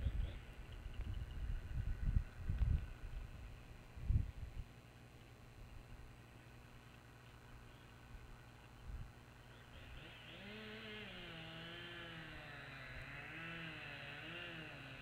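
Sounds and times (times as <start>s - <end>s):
distant motor engine: 0.0s - 15.0s
low steady rumble: 0.0s - 15.0s.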